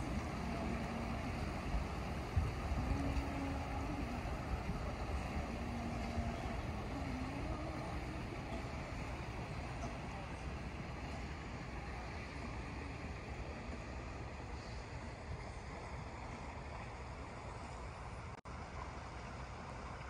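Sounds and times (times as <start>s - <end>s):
wind on microphone: 0.0s - 16.6s
boat engines humming: 0.0s - 20.0s.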